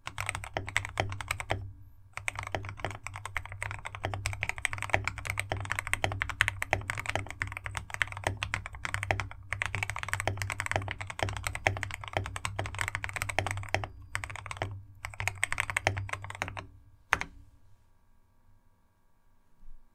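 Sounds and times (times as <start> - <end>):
fast mechanical keyboard typing: 0.0 - 17.3.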